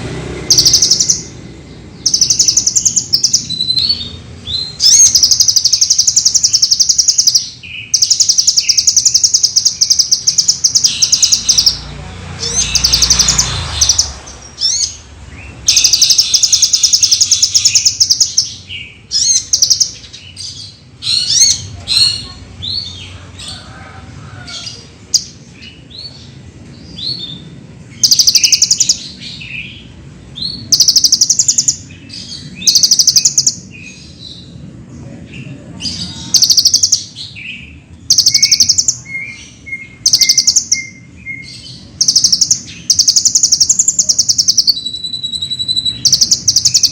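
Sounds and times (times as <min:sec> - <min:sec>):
lower evenly spaced bird notes: 0:00.0 - 0:21.8, 0:24.8 - 0:46.9
sunbird singing trilled phrases: 0:00.5 - 0:23.0, 0:27.0 - 0:34.5, 0:35.9 - 0:46.9.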